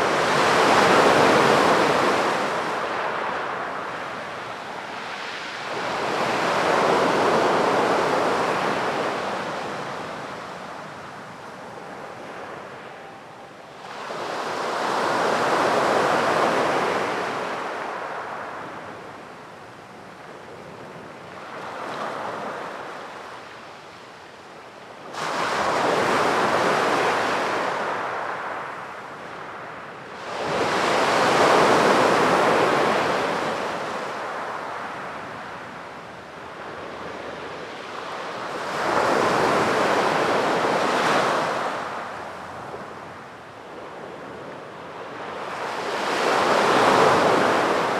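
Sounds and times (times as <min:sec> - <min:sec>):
sea waves breaking on beach: 0:00.0 - 0:12.9, 0:13.8 - 0:19.0, 0:25.0 - 0:47.9.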